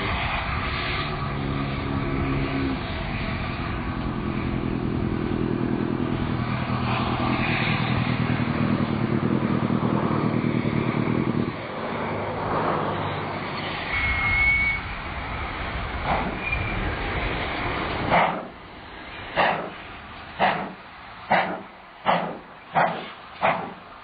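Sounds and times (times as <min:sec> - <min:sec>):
steam locomotive exhaust beat: 0:00.0 - 0:24.0
train coaches rumbling: 0:00.0 - 0:24.0.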